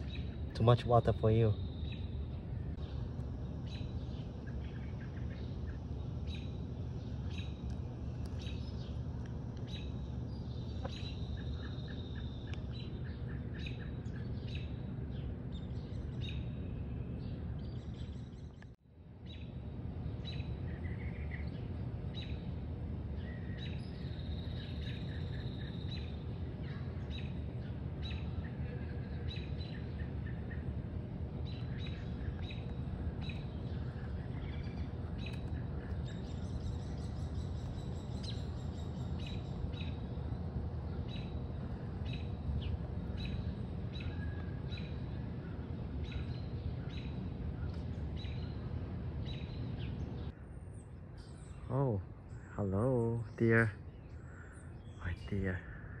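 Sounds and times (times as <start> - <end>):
birds chirping: 0.0 - 56.0
low outdoor rumble: 0.0 - 56.0.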